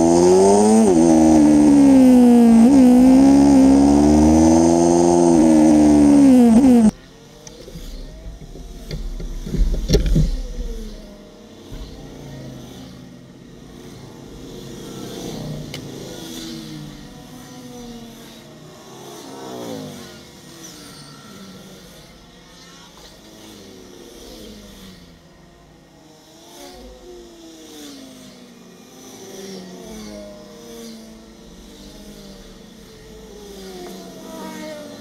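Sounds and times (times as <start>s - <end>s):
motorcycles riding past: 0.0s - 26.9s, 27.6s - 35.0s.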